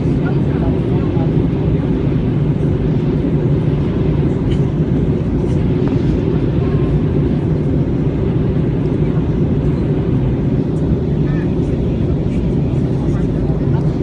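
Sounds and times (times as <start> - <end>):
jet engines and rushing air: 0.0 - 14.0.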